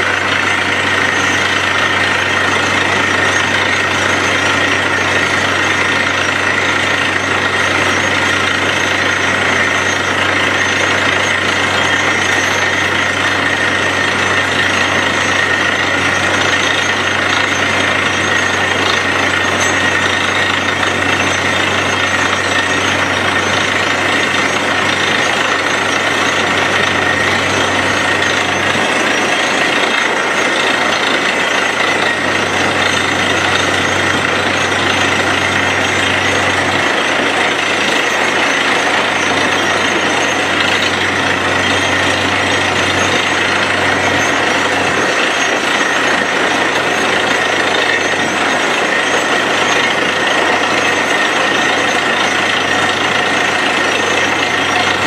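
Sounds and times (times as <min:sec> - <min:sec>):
drilling rig hammering: 0:00.0 - 0:55.0.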